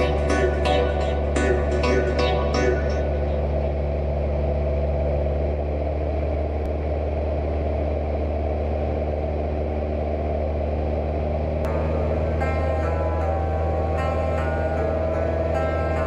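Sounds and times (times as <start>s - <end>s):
propeller plane engine droning: 0.0s - 16.0s.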